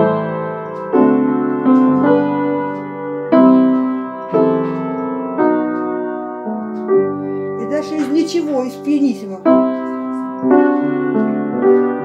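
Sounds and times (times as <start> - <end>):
piano chords played slowly: 0.0 - 12.0.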